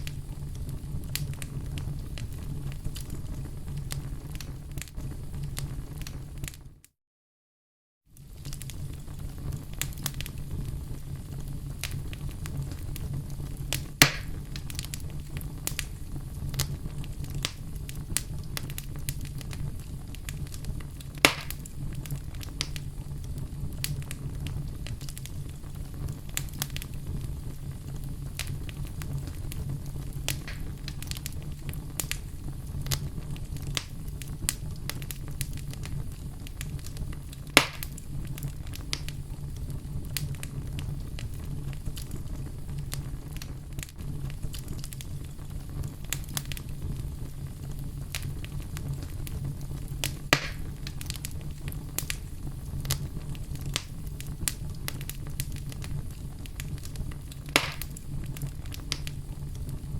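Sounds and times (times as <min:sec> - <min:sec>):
loud sharp pops of fire: 0:00.0 - 0:06.6, 0:08.2 - 0:59.9
fireplace fire crackling: 0:00.0 - 0:06.9, 0:08.1 - 0:59.9.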